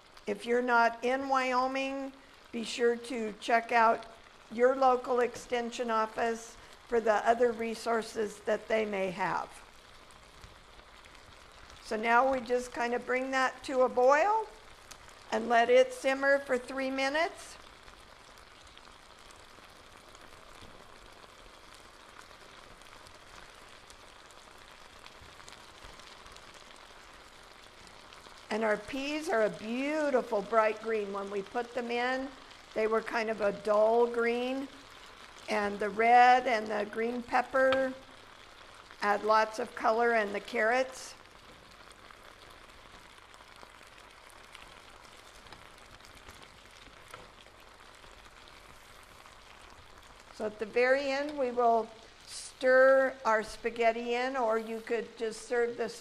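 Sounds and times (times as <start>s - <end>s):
food sizzling and bubbling: 0.0s - 56.0s.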